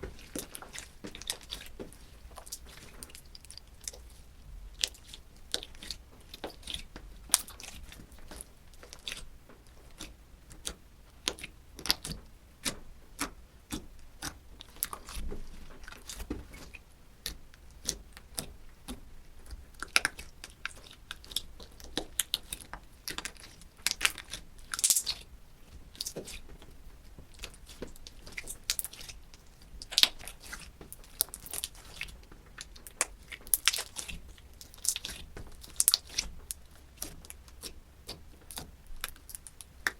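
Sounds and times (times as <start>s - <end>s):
slime crackling and popping: 0.1s - 26.6s, 27.2s - 39.9s.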